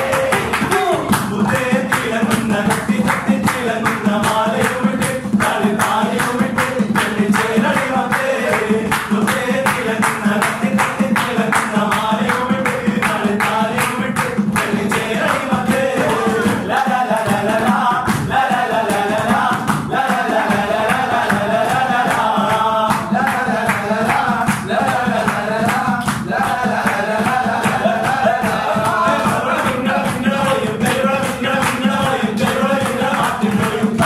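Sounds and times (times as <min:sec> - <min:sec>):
men singing together: 0:00.0 - 0:34.0
rhythmic hand-clapping: 0:00.0 - 0:34.0.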